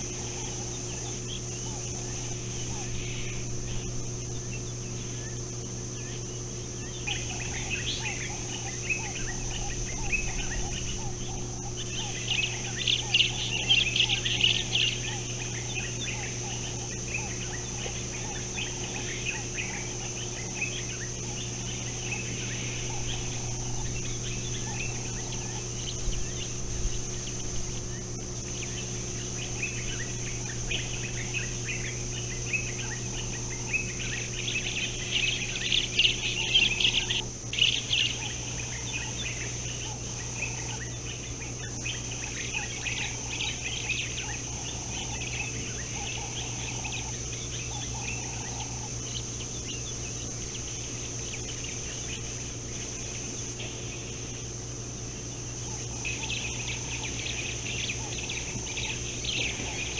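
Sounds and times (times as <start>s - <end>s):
guineafowl flock calling: 0.0s - 59.9s
high-pitched whine: 0.0s - 59.9s
steady low hum: 0.0s - 59.9s.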